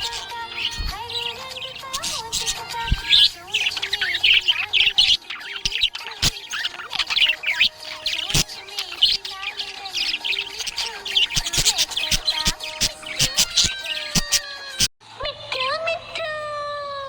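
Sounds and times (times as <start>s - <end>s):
budgerigars chirping and warbling: 0.0s - 14.9s.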